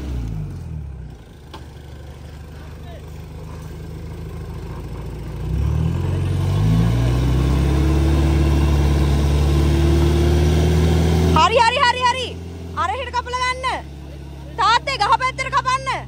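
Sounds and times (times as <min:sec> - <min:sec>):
jeep engine revving: 0:00.0 - 0:16.0.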